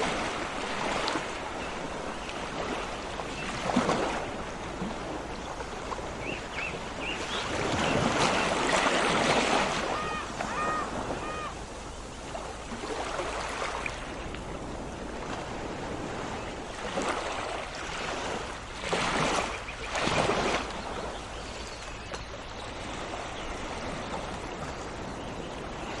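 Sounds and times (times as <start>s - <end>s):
loud waves breaking: 0.0s - 21.0s
sea waves washing onto shore: 0.0s - 26.0s.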